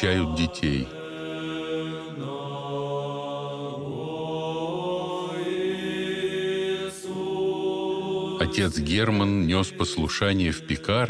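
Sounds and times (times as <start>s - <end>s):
slow chanting: 0.0s - 11.0s.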